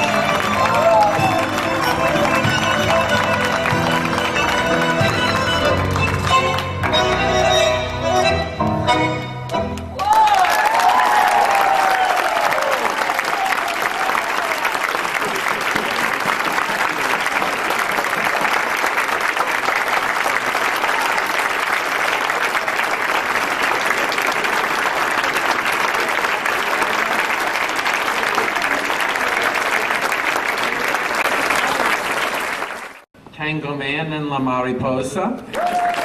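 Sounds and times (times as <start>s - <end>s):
audience applauding: 0.0s - 7.4s, 10.0s - 33.1s, 35.5s - 36.0s.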